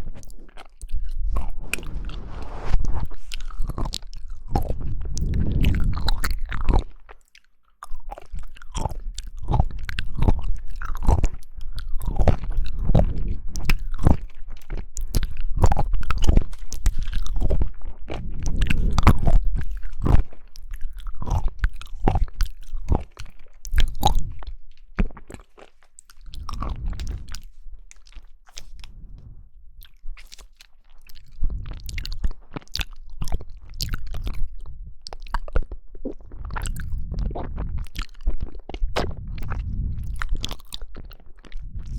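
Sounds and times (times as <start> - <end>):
jelly being chewed: 0.0 - 2.0, 2.8 - 41.9.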